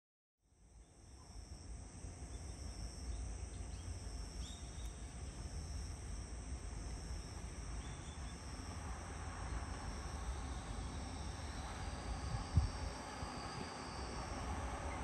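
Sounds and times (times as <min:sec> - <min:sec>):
insects chirping: 0:00.6 - 0:15.0
low steady rumble: 0:01.4 - 0:15.0.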